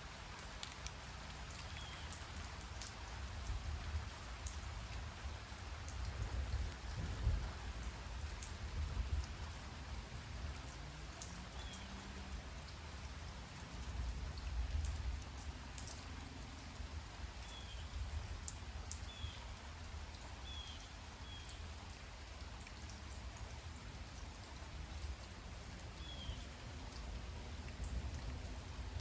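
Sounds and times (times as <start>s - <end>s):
light rain falling: 0.0s - 29.0s
raindrops ticking: 0.0s - 29.0s.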